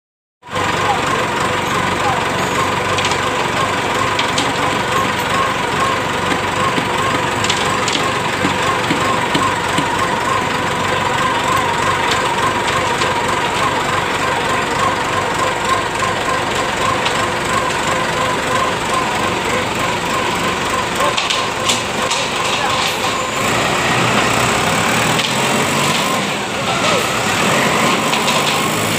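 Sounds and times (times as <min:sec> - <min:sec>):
diesel truck engine running: 0:00.4 - 0:28.9.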